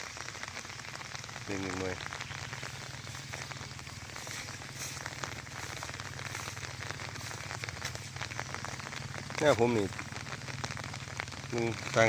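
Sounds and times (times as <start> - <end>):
falling water splashing: 0.0 - 12.0.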